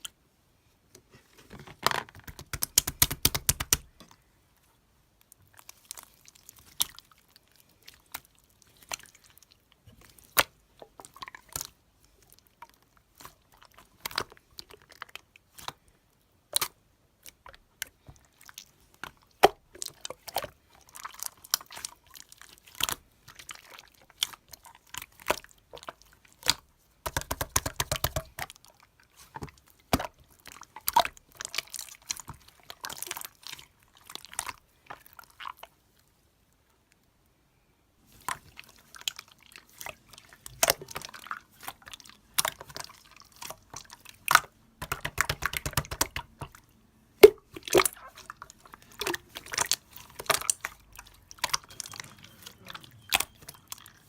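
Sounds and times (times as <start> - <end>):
hands squishing slime: 2.2 - 4.2, 5.4 - 36.0, 38.0 - 54.0.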